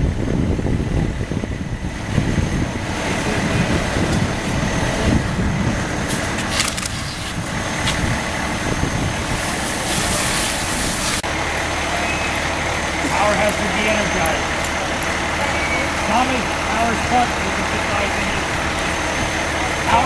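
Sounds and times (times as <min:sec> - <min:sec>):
engine low rumble: 0:00.0 - 0:20.0.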